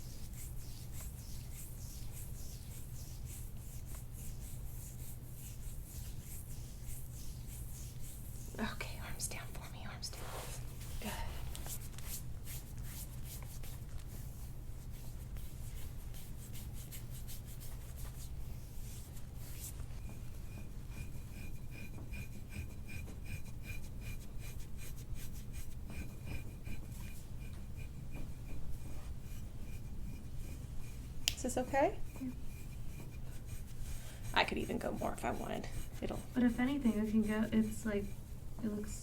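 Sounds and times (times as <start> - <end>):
massage strokes rubbing on skin: 0.0 - 39.0.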